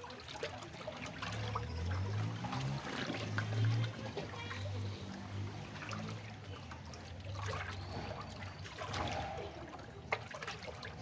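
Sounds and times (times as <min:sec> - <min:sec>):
wet sloshing and dribbling: 0:00.0 - 0:11.0.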